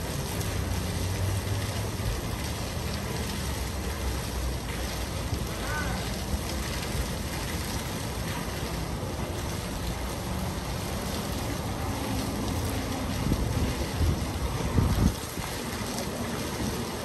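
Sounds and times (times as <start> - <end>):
fountain jets splashing: 0.0 - 17.0.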